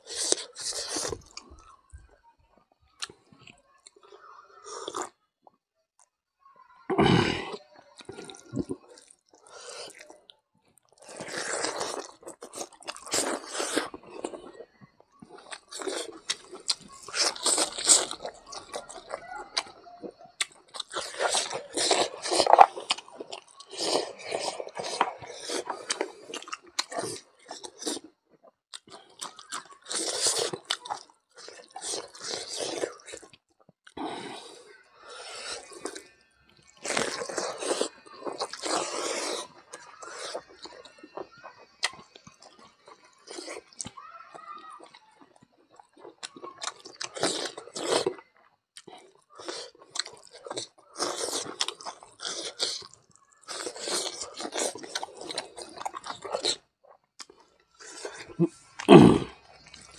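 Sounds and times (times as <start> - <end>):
wet chewing and crunching: 0.0 - 2.1, 8.0 - 59.9.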